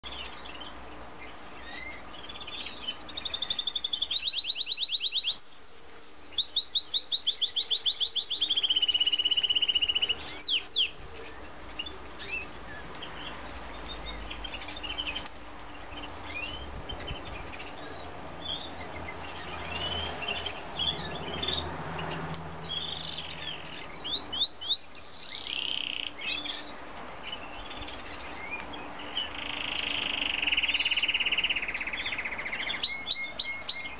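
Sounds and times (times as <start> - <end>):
canary singing: 0.0 - 33.9.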